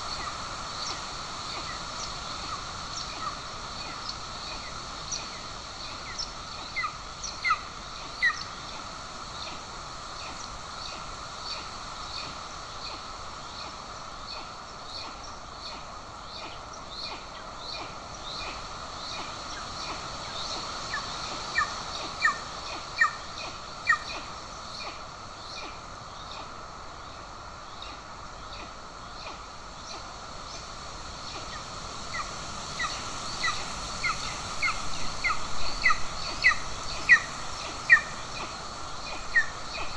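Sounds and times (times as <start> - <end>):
outdoor hiss: 0.0 - 39.9.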